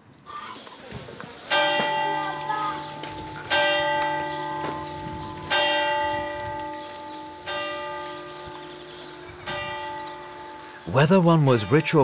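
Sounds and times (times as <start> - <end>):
church bell tolling: 1.5 - 12.0.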